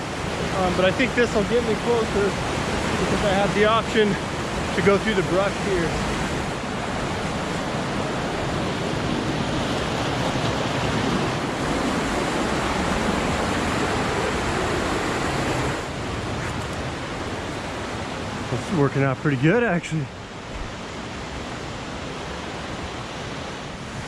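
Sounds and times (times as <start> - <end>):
floodwater rushing: 0.0 - 24.0
waterfall: 0.0 - 24.0.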